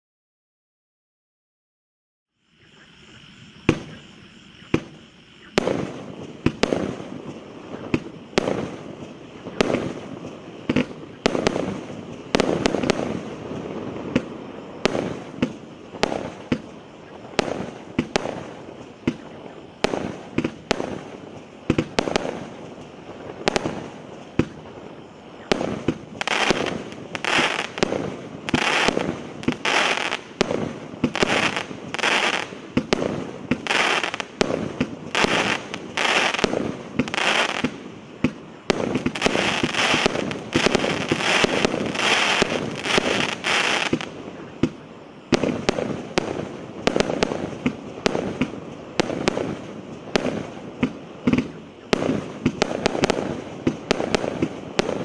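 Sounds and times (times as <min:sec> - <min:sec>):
firework crackle: 0:02.4 - 0:55.0
firework bangs: 0:03.1 - 0:55.0.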